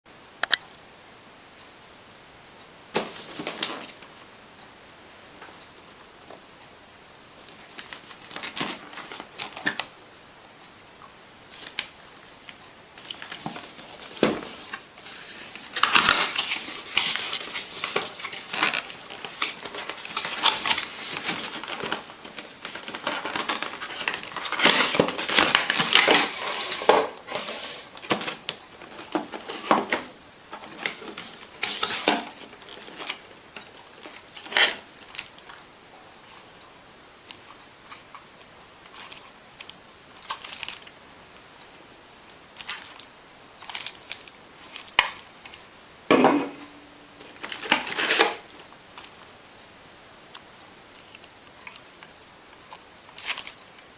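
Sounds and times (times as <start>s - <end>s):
rustling and crinkling: 2.9s - 4.1s, 7.4s - 9.9s, 11.5s - 36.7s, 37.3s - 41.5s, 42.2s - 49.3s, 50.3s - 53.9s.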